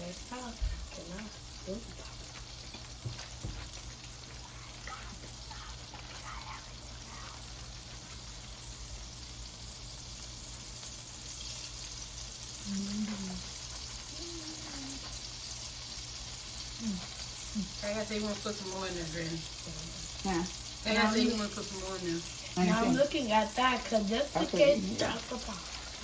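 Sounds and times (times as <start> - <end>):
chicken frying in grease: 0.0 - 26.0
grease popping: 0.0 - 26.0.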